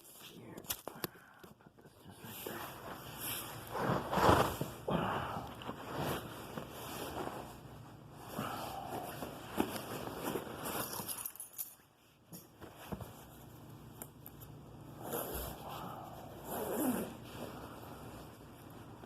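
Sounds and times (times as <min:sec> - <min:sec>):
rustling and scraping objects: 0:02.2 - 0:19.0.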